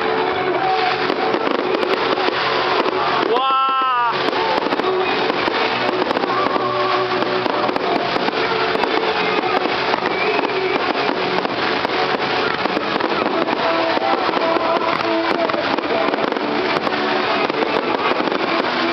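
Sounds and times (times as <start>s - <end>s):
fireworks crackling: 0.0s - 18.9s
music: 0.0s - 18.9s
voices: 0.0s - 18.9s.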